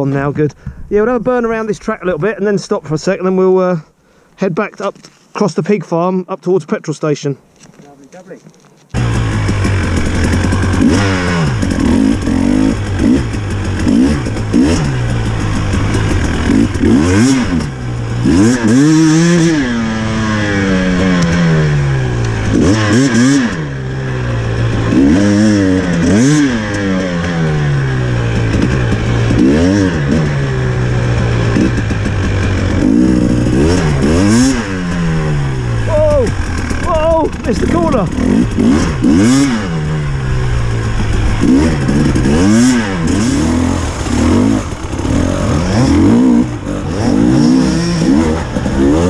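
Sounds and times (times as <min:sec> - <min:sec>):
dirt bike engine revving: 0:08.9 - 0:49.0.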